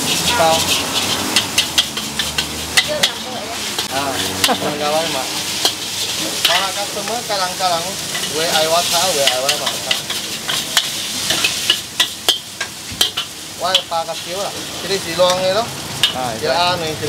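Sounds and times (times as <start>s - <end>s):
metal spatula scraping wok: 0.0s - 16.2s
food sizzling in a wok: 0.0s - 17.0s.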